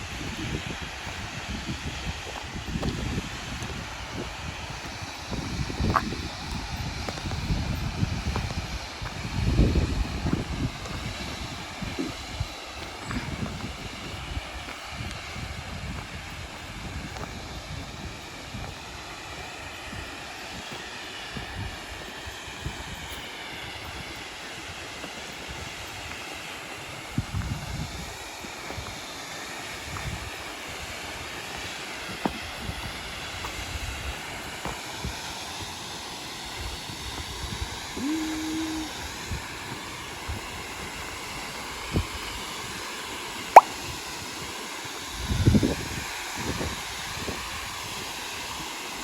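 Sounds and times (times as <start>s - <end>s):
wind rumbling on microphone: 0.0s - 29.1s, 29.7s - 49.0s.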